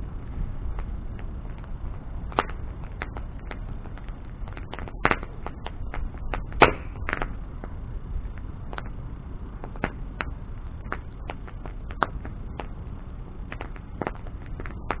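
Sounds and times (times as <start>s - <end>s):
bonfire popping and crackling: 0.0s - 15.0s
low rumble of flames: 0.0s - 15.0s.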